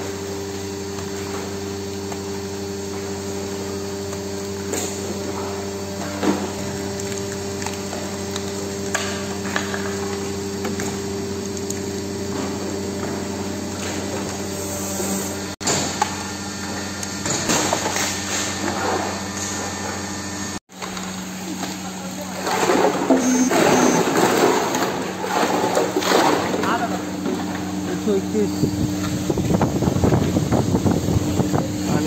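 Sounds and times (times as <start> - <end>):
hydraulic motor and pump hum: 0.0 - 32.0.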